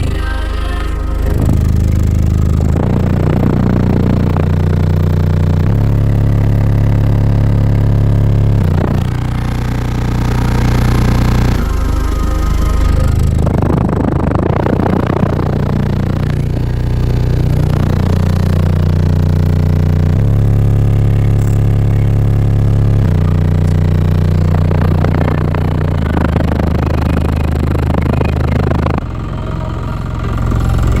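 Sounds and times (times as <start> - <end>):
deep bass notes from subwoofers: 0.0 - 31.0.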